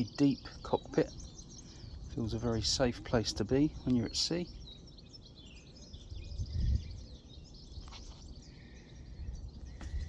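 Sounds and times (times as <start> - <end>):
small birds chirping: 0.0 - 10.0
wind rumble on microphone: 0.8 - 10.0.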